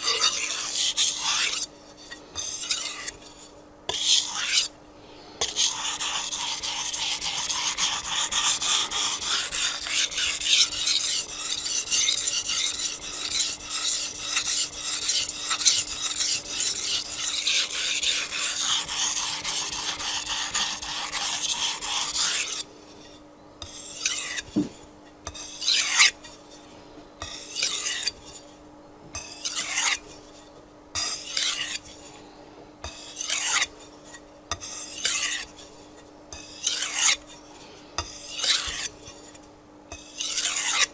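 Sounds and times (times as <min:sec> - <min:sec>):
knife scraping on whetstone: 0:00.0 - 0:04.8, 0:05.4 - 0:28.5, 0:29.2 - 0:32.2, 0:32.8 - 0:40.9.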